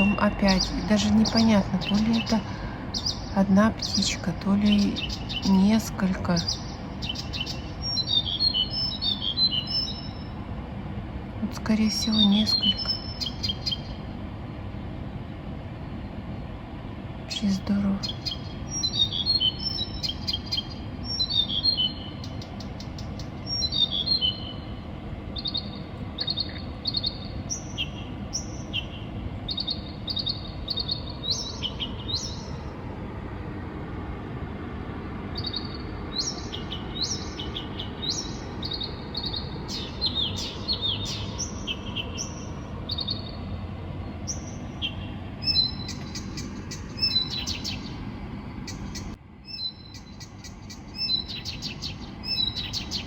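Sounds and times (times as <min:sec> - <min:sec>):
songbird singing: 0:00.0 - 0:10.5, 0:11.4 - 0:14.3, 0:15.8 - 0:53.0
low background hum: 0:00.0 - 0:53.0.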